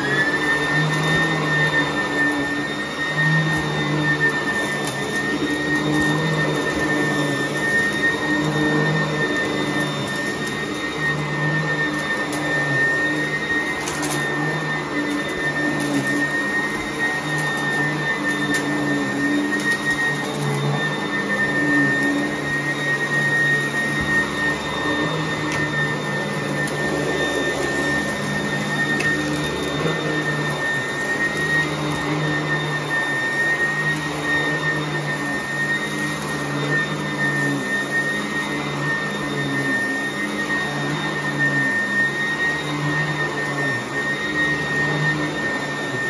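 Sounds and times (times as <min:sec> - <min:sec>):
vacuum motor whining: 0:00.0 - 0:46.0.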